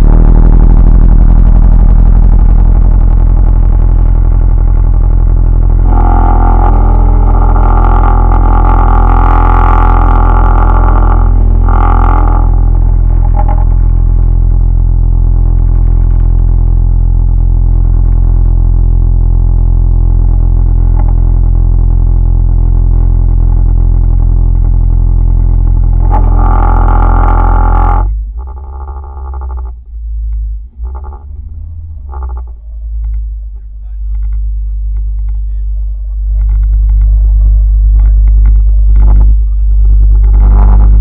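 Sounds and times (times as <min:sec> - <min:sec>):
engine droning: 0:00.0 - 0:41.0.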